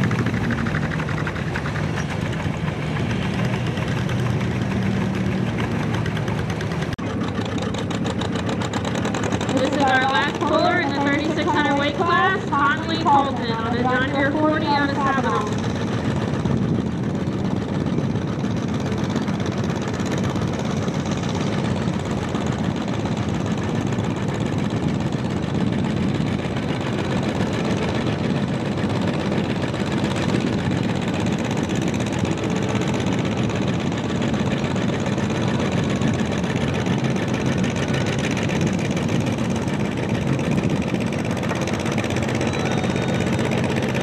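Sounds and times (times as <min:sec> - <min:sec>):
second tractor engine running: 0:00.0 - 0:44.0
tractor engine under load: 0:00.0 - 0:44.0.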